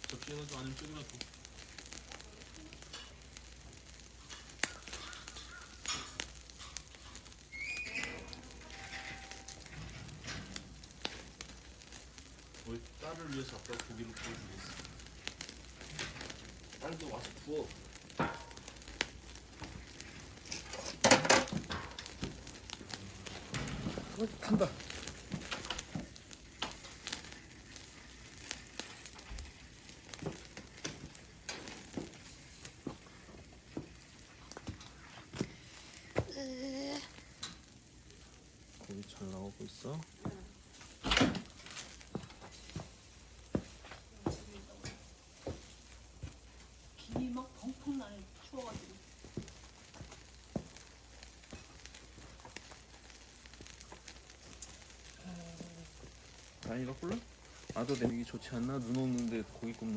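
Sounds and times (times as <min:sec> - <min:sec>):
fire popping and crackling: 0:00.0 - 0:59.9
meat sizzling over a fire: 0:00.0 - 0:59.9.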